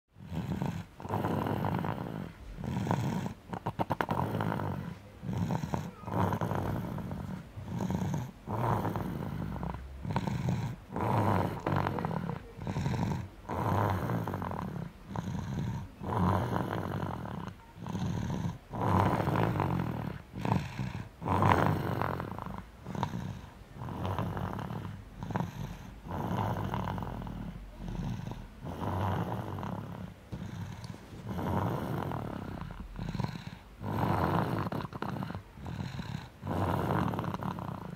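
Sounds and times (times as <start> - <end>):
snoring: 0.2 - 37.9.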